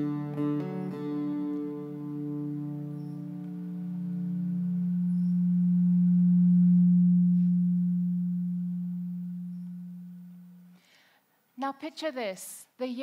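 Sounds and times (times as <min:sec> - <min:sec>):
lute low note hum: 0:00.0 - 0:11.1.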